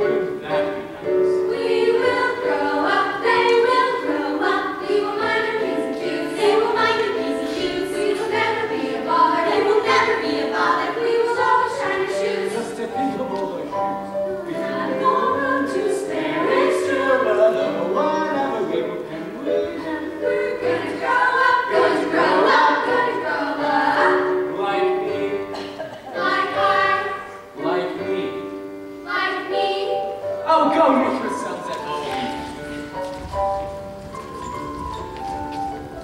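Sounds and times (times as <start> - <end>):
choir singing: 0.0 - 28.4, 29.0 - 33.0.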